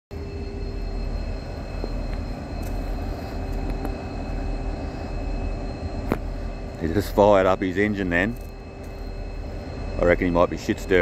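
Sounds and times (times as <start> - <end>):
diesel locomotive engine rumble: 0.1 - 11.0.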